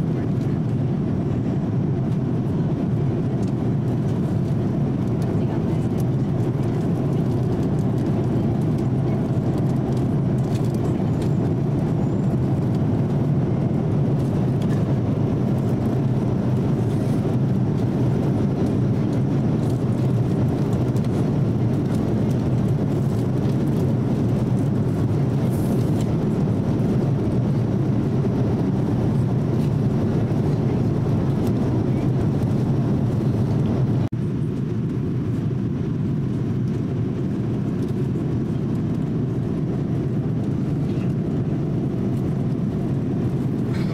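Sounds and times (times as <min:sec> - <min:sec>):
airflow and jet engines rumble: 0:00.0 - 0:43.9.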